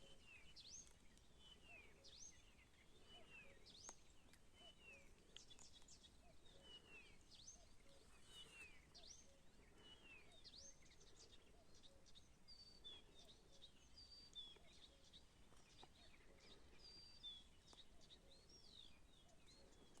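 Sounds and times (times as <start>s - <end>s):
faint outdoor hiss: 0.0s - 20.0s
songbirds chirping and whistling: 0.0s - 20.0s.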